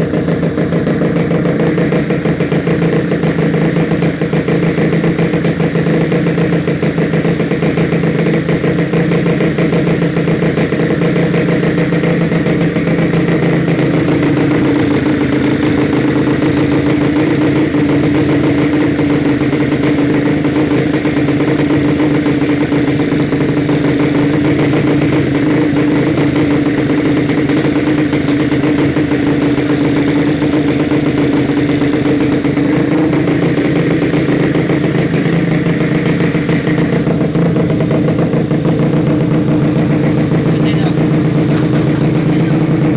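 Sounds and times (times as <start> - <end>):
scooter engine idling: 0.0 - 42.9.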